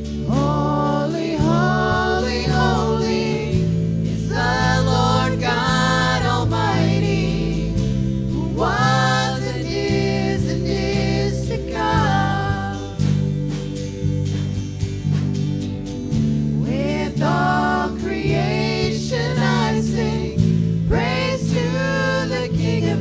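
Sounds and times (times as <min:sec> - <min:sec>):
voices singing worship song: 0:00.0 - 0:14.6, 0:16.1 - 0:23.0
instrumental chords and bass: 0:00.0 - 0:23.0.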